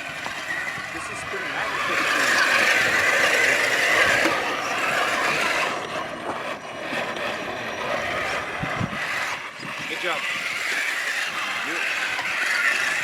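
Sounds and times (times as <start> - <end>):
electric motor and gears whirring: 0.0 - 13.0.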